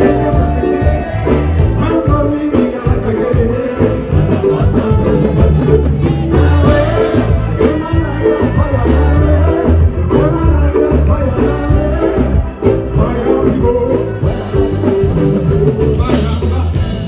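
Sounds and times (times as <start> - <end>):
live band dance music: 0.0 - 17.0.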